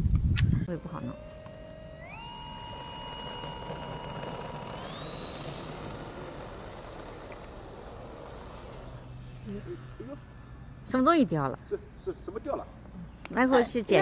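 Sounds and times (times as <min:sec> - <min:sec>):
electric motor and propeller whining: 0:00.0 - 0:14.0.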